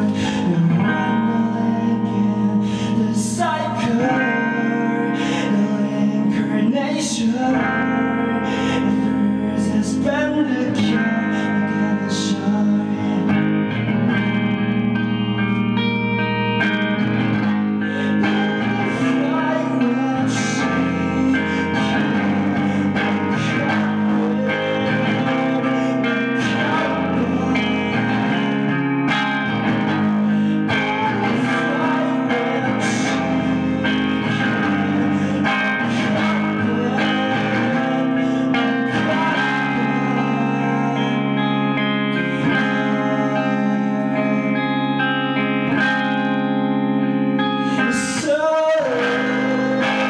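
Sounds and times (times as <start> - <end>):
man singing into microphone: 0.0 - 13.7, 17.4 - 45.2, 47.6 - 50.0
electric guitar chords strummed: 0.0 - 50.0.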